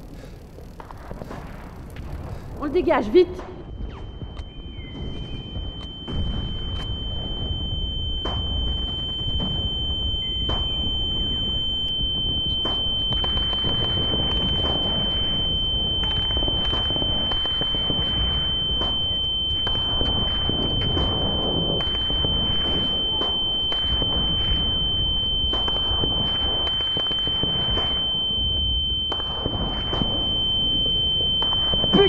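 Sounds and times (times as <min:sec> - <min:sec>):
high-pitched ringing tone: 0:02.6 - 0:32.0.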